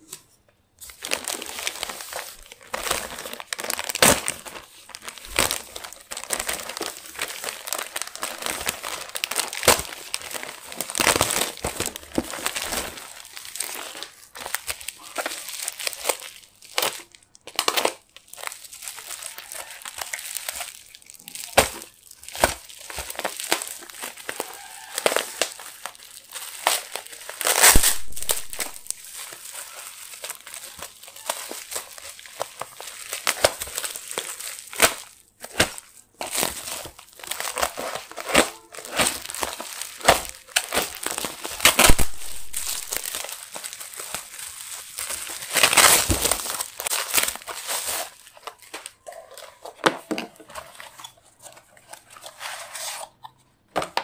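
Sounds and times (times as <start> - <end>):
bubble wrap crinkling: 0.7 - 54.0.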